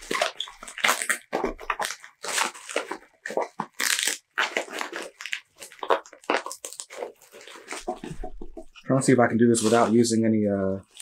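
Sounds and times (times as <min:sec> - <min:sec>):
packaging wrap crinkling: 0:00.0 - 0:08.8.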